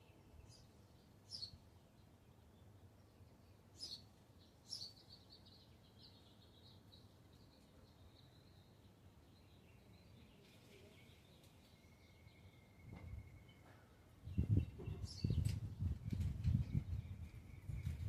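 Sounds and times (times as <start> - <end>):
songbird chirps: 0.0 - 18.0
songbird trill: 0.0 - 18.0.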